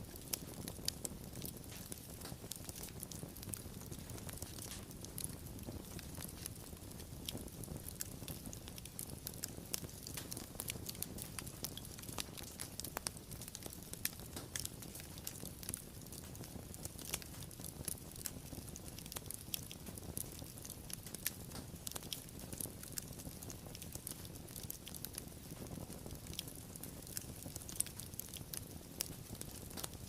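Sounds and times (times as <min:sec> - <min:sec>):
low rumble of burning: 0:00.0 - 0:30.0
wood fire pops and snaps: 0:00.0 - 0:30.0.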